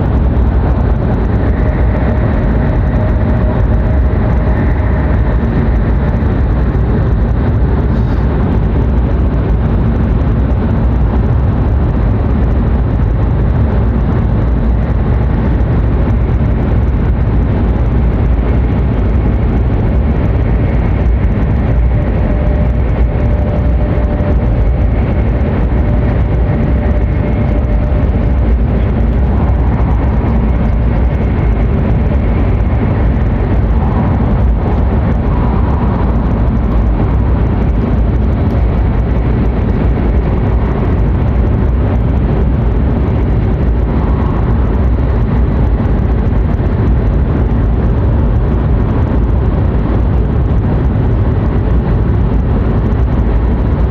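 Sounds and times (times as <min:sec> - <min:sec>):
train rumbling inside cabin: 0:00.0 - 0:53.9.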